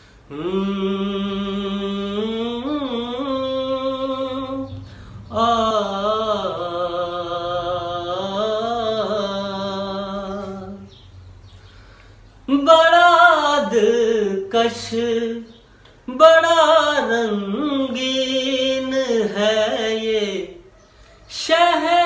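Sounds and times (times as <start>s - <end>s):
man singing unaccompanied: 0.0s - 11.2s, 12.4s - 22.0s.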